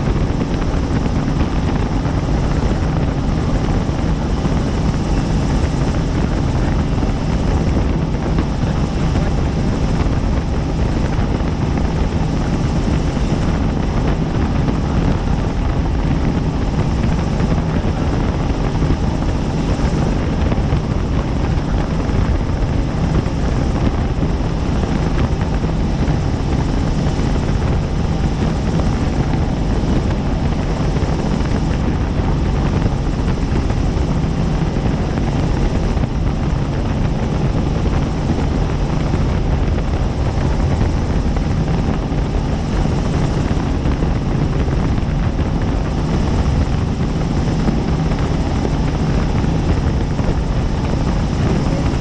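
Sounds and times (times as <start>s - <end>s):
helicopter rotor and engine drone: 0.0s - 52.0s.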